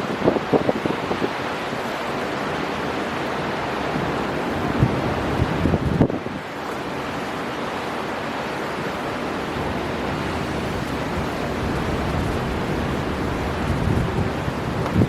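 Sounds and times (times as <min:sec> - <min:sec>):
storm wind: 0:00.0 - 0:15.0
waves breaking: 0:00.0 - 0:15.0.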